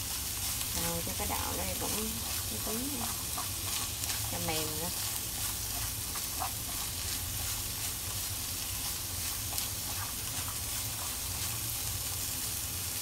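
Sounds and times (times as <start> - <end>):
vegetables and meat sizzling in a wok: 0.0 - 13.0
chopsticks scraping: 0.4 - 11.7.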